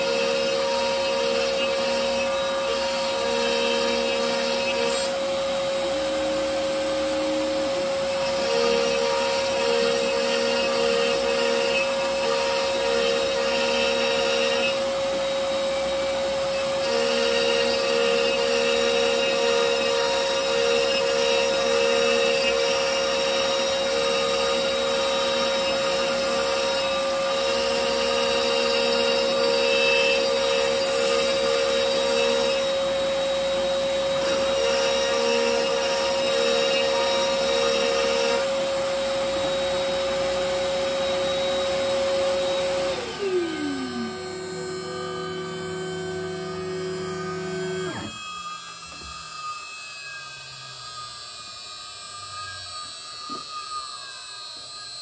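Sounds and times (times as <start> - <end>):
router bit cutting wood: 0.0 - 55.0
router spindle whine: 0.0 - 55.0.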